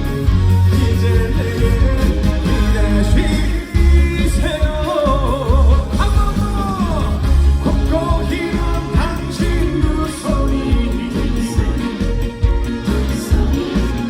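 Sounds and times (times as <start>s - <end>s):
band playing: 0.0s - 14.0s
heavy bass drum beat: 0.0s - 14.0s
man singing with vibrato: 0.0s - 14.0s.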